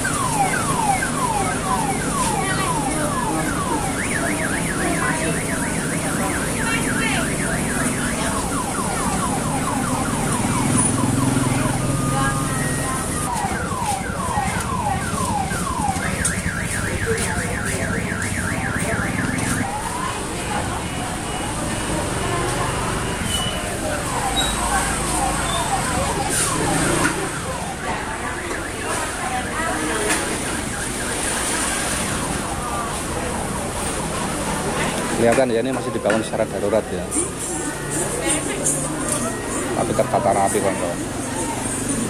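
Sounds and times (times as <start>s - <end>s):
electronic alarm siren: 0.0s - 42.0s.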